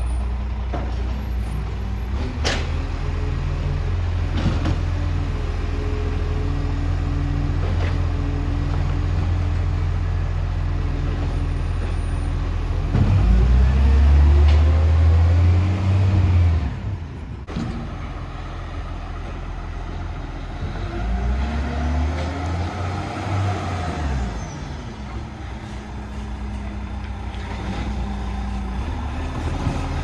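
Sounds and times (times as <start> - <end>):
diesel engine idling and revving: 0.0 - 30.0.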